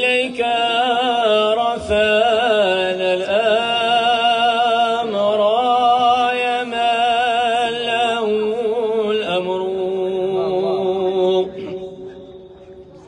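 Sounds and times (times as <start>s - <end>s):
man singing chant: 0.0s - 13.0s.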